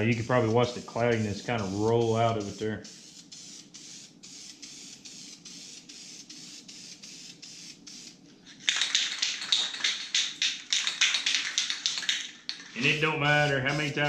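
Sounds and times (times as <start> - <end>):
spray can rattling when shaken: 0.0 - 14.0
spray paint can hissing: 0.0 - 14.0.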